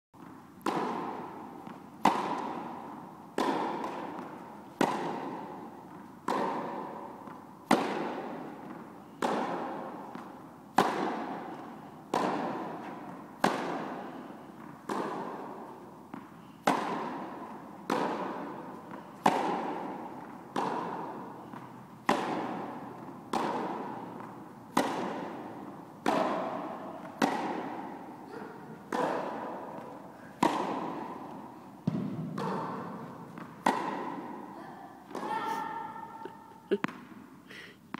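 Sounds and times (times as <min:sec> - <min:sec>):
tennis ball hit by rackets: 0:00.2 - 0:37.3.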